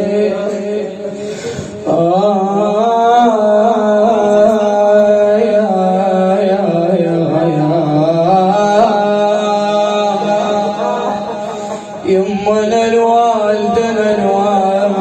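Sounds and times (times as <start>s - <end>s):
man singing wordless melody: 0.0s - 15.0s.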